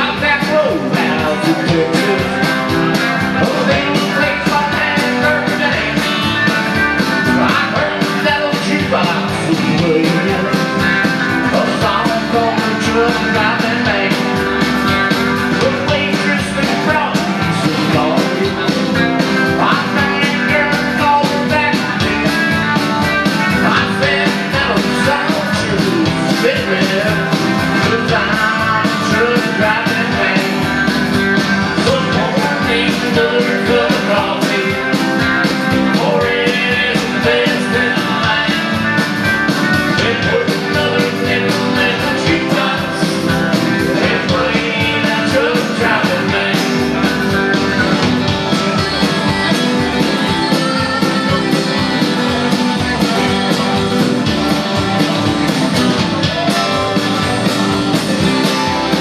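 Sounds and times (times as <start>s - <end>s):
rock band playing with guitars: 0.0s - 59.0s.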